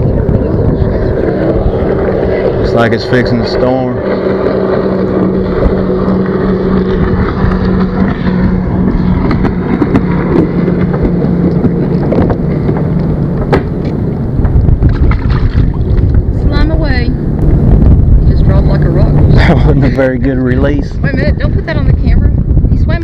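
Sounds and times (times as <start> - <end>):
choppy water: 0.0 - 23.0
low hum: 0.0 - 23.0
wind on microphone: 0.0 - 23.0.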